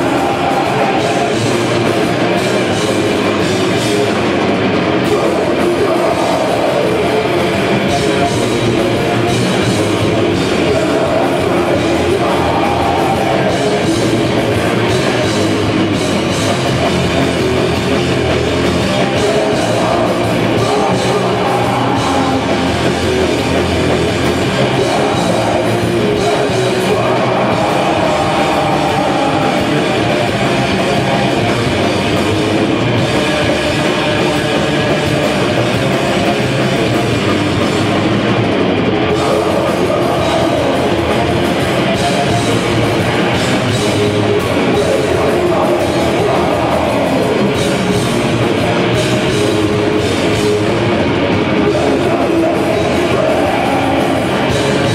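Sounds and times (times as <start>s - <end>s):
distorted electric guitar: 0.0s - 54.9s
drum kit: 0.0s - 54.9s.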